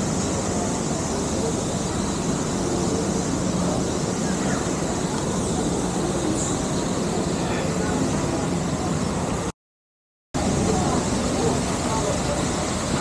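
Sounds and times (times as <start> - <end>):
continuous rushing hiss: 0.0 - 9.5, 10.4 - 13.0.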